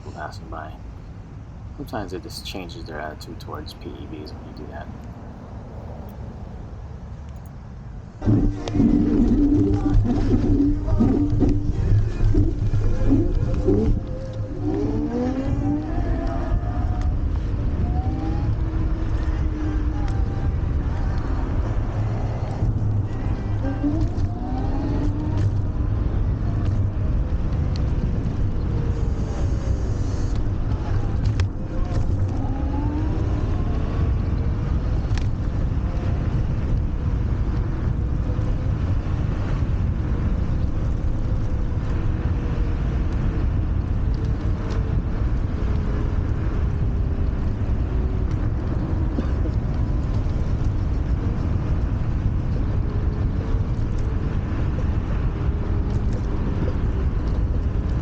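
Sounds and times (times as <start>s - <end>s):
wind rushing over microphone: 4.2s - 58.0s.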